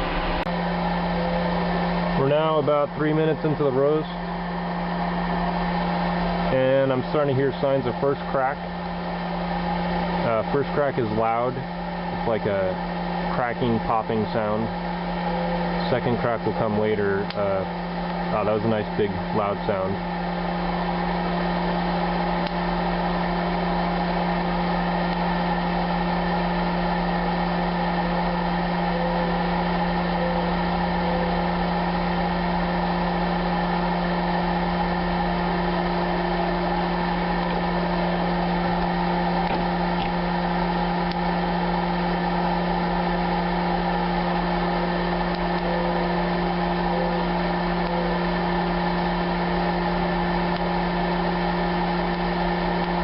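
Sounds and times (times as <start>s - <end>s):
popcorn popper fan hum: 0.0s - 53.0s.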